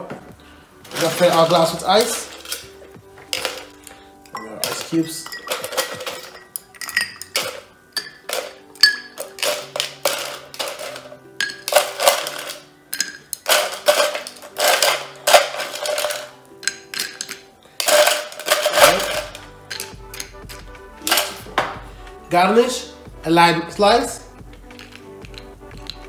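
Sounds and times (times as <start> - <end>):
soft background music: 0.0 - 26.0
ice cubes clinking into glass: 0.9 - 21.5, 24.7 - 26.0.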